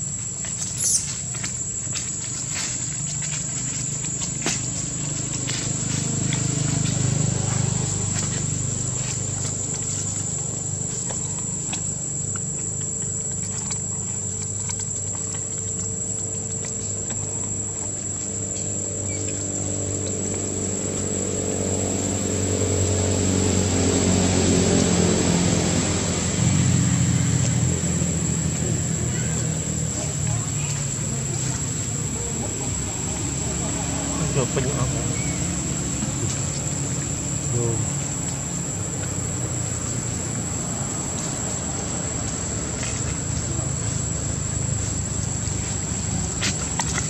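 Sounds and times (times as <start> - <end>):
high-pitched insect drone: 0.0 - 9.4, 16.3 - 47.0
vehicle engine hum: 0.0 - 47.0.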